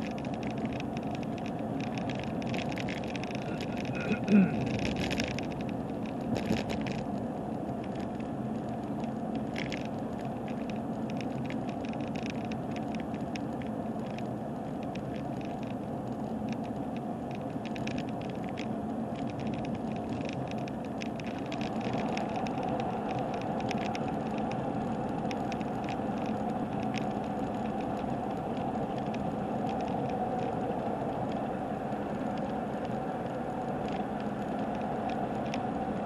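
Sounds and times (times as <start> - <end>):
car road and engine noise: 0.0 - 36.0.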